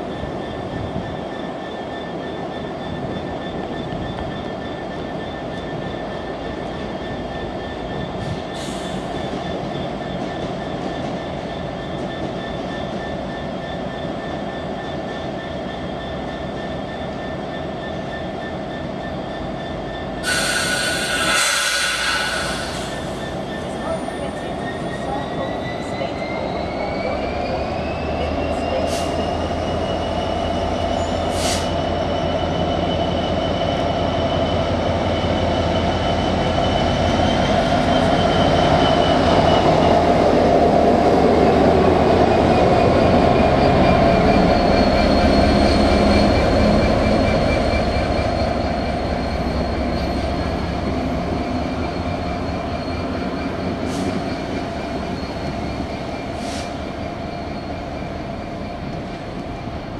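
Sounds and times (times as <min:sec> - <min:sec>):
rolling train wheels: 0:00.0 - 0:59.9
wheel squeals on rails: 0:00.0 - 0:59.9
diesel locomotive engine humming: 0:02.4 - 0:59.9.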